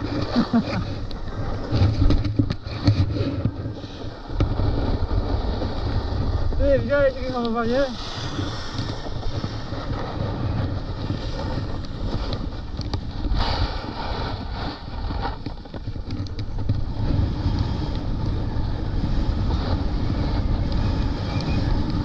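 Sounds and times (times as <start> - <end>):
snowboard scraping on snow: 0.0 - 22.0
wind buffeting microphone: 0.0 - 22.0.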